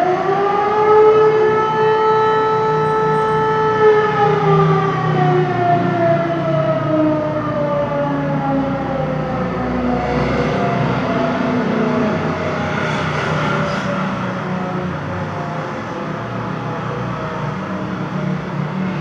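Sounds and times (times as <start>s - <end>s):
air-raid siren: 0.0s - 19.0s.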